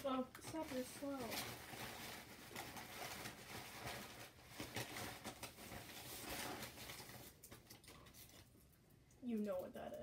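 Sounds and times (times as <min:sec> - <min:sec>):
candy wrapper crinkling: 0:00.0 - 0:08.8.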